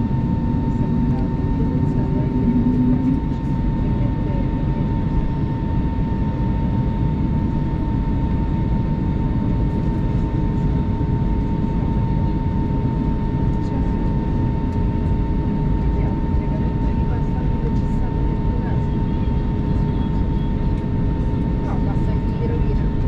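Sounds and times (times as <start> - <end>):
aircraft cabin rumble: 0.0 - 23.0
steady mid and high hums: 0.0 - 23.0.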